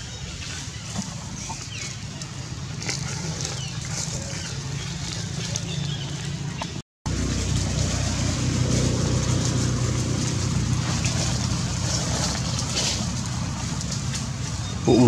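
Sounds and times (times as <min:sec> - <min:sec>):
engine humming with hiss: 0:00.0 - 0:15.0.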